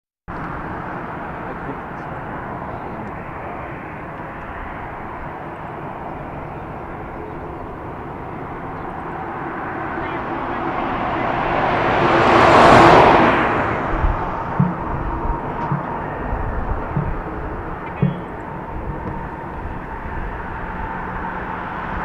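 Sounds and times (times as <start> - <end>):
jet engines roaring: 0.3 - 22.0.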